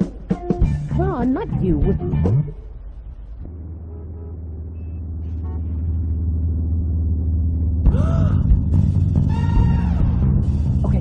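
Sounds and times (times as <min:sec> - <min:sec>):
car engine rumbling: 0:00.6 - 0:11.0.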